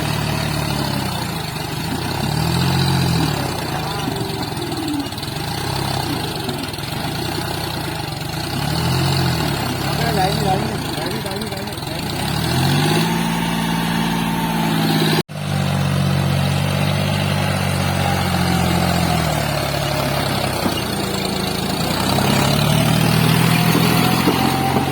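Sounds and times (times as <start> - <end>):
tractor diesel engine revving: 0.0 - 24.9.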